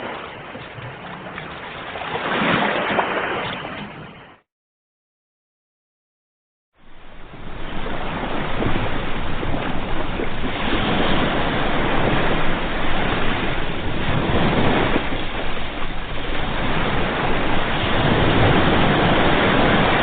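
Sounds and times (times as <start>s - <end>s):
sea waves breaking on shore: 0.0s - 4.4s, 6.8s - 20.0s.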